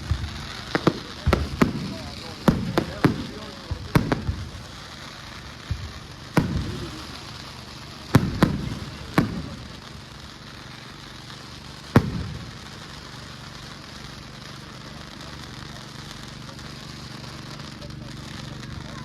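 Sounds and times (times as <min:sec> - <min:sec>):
fireworks bangs with rumbling echo: 0:00.0 - 0:19.0.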